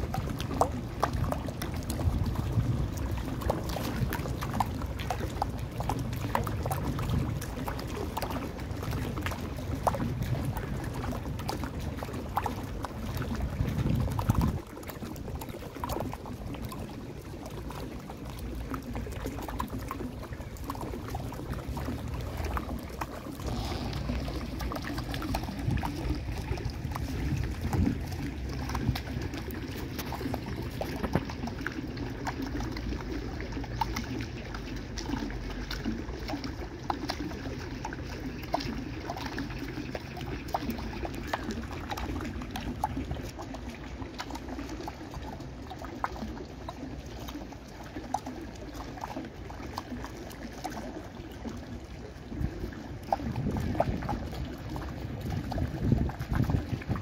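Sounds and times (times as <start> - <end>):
small water splashes: 0.0 - 57.0
water pouring down stone fountain: 0.0 - 57.0.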